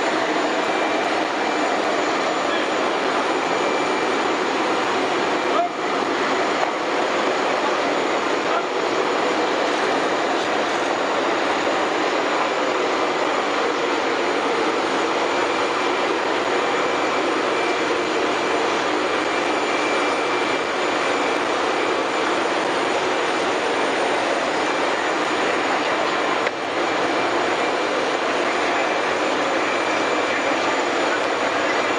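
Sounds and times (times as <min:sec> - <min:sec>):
aircraft engine running: 0:00.0 - 0:31.9.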